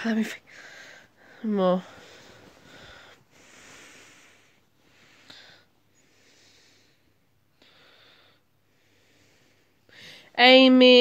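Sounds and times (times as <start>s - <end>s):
soft breathing close to microphone: 0.4s - 10.4s.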